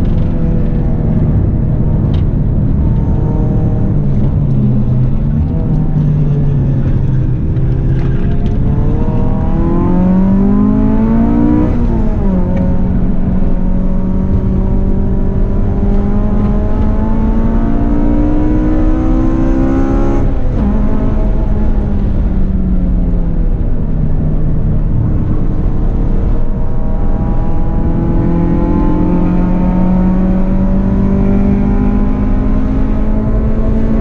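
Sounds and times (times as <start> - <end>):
car engine revving: 0.0 - 34.0
road and wind noise: 0.0 - 34.0.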